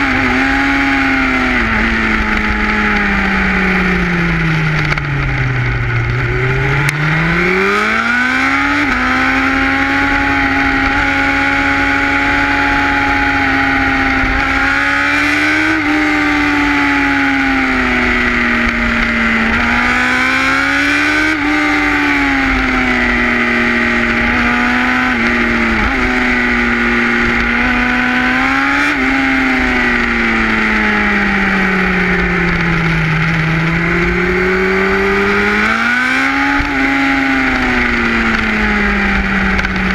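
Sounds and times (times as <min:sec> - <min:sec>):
motorcycle engine running at speed: 0:00.0 - 0:39.9
wind and road rush: 0:00.0 - 0:39.9.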